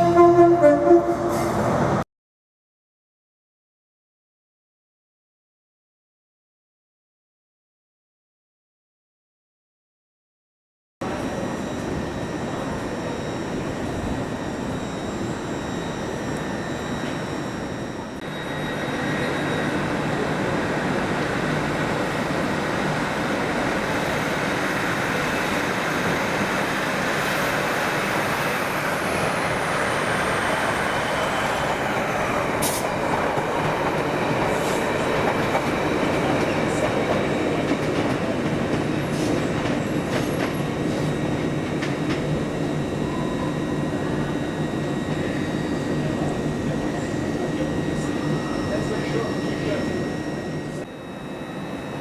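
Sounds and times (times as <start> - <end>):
train rumble: 0.0 - 2.0, 11.0 - 50.9.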